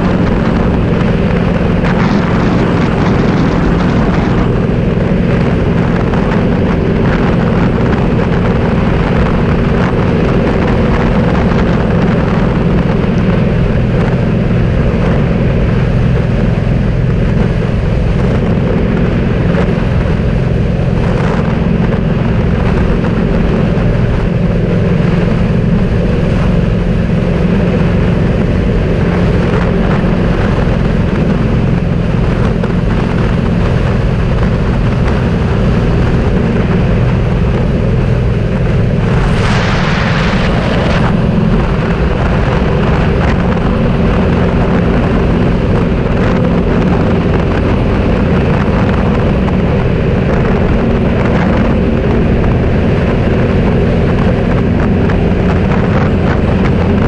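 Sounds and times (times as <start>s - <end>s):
vehicle engine and road noise: 0.0s - 57.0s
wind rushing: 0.0s - 57.0s.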